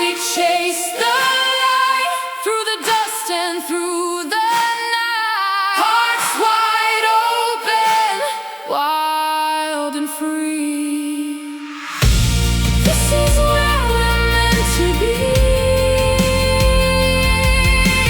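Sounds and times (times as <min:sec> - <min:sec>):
female vocal melody with vibrato: 0:00.0 - 0:11.8, 0:12.9 - 0:18.0.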